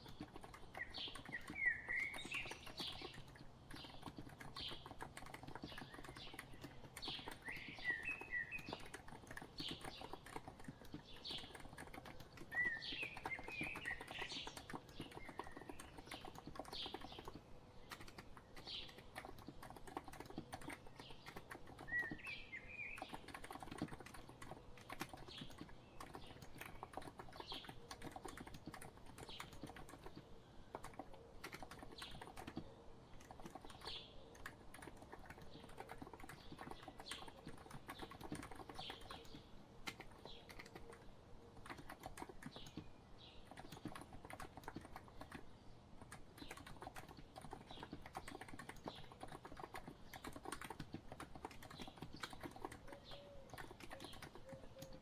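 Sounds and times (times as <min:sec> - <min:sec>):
birds chirping: 0:00.0 - 0:55.0
soft keyboard typing: 0:00.0 - 0:55.0.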